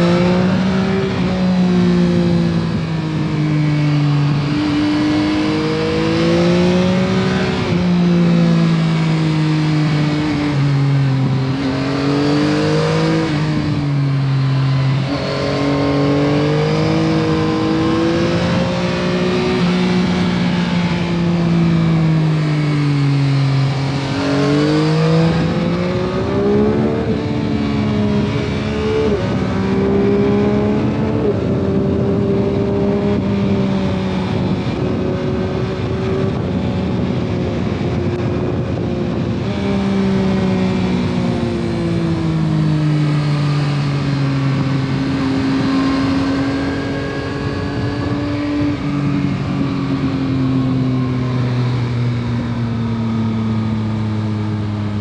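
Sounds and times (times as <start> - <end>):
motorcycle engine under way: 0.0 - 55.0
road and wind noise: 0.0 - 55.0.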